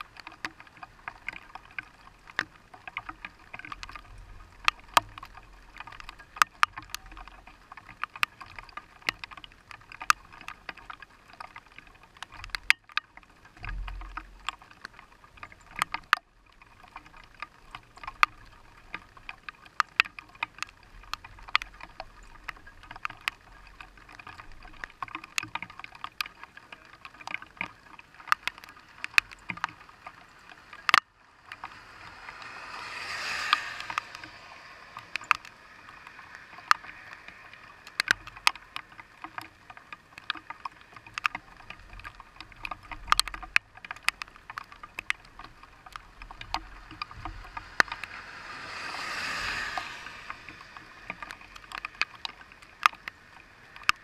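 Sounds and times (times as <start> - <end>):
rain pelting a windshield: 0.0 - 54.0.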